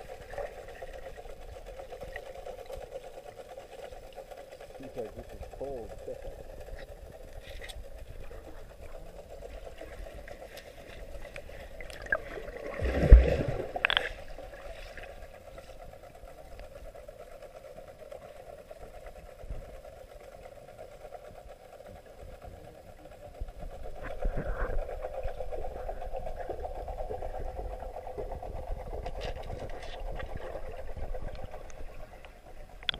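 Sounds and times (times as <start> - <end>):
muffled underwater hum: 0.0 - 32.9
water noise: 0.0 - 32.9.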